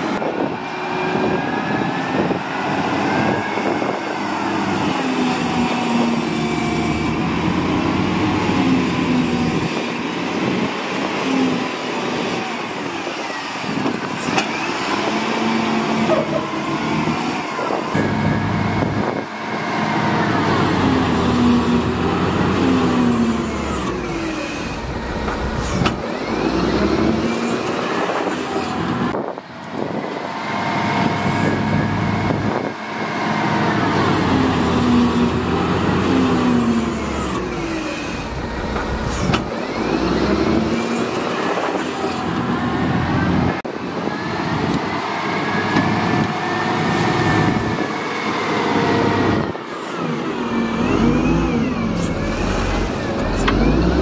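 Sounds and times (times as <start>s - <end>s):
diesel engine revving under load: 0.0s - 54.0s.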